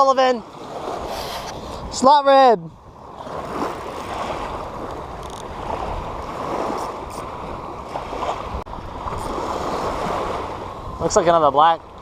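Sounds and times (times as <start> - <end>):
shallow surf: 0.0 - 12.0
wind: 0.0 - 12.0.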